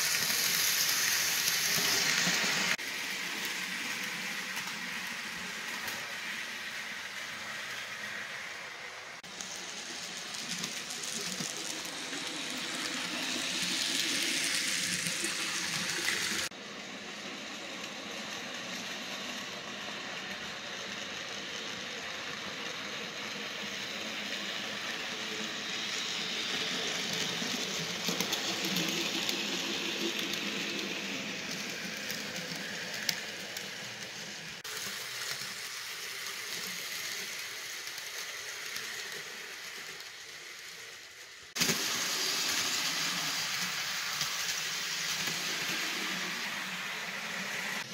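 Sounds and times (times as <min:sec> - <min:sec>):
model train running on track: 0:00.0 - 0:47.9.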